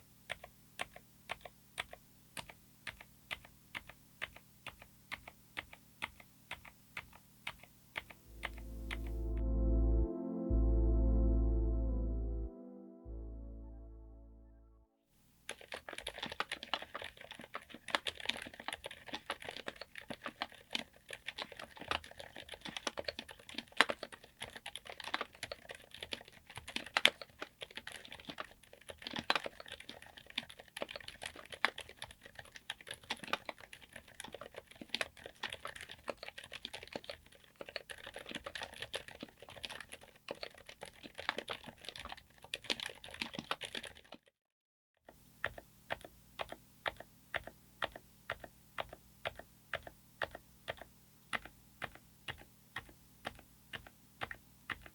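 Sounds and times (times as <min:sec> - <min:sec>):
fast typing on keyboard: 0:00.3 - 0:09.1, 0:15.5 - 0:44.3, 0:45.4 - 0:54.9.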